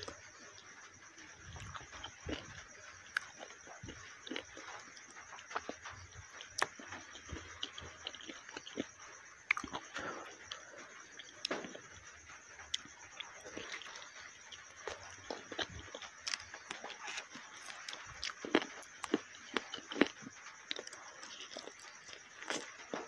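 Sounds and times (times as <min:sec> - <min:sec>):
wet chewing and lip smacking: 0:00.0 - 0:12.0, 0:12.6 - 0:23.0.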